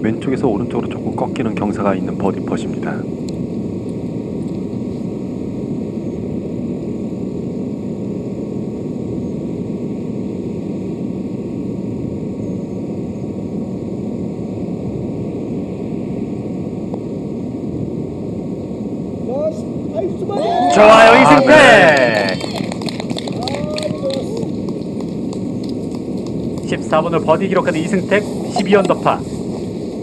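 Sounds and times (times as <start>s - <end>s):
low outdoor rush: 0.0s - 30.0s.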